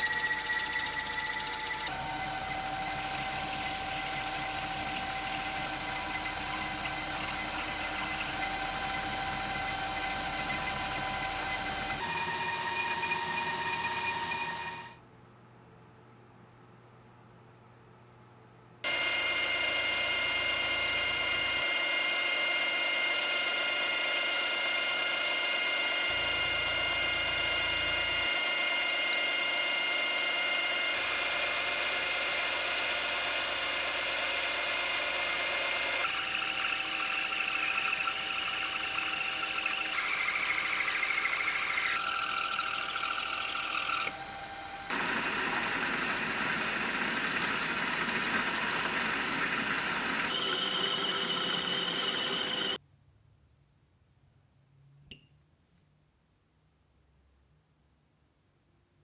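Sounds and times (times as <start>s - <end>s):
power tool motor whining: 0.0s - 15.0s, 18.9s - 52.8s.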